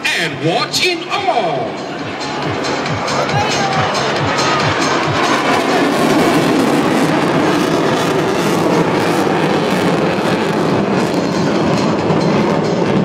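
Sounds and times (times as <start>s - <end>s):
fighter jet engine roaring: 0.0s - 13.0s.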